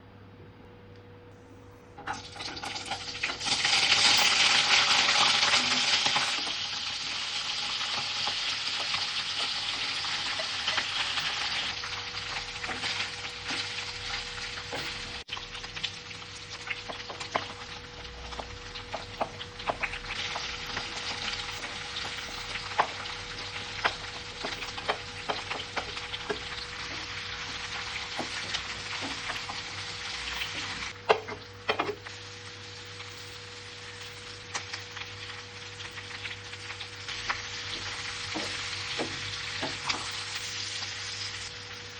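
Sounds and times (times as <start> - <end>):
food sizzling in oil: 2.0 - 41.9.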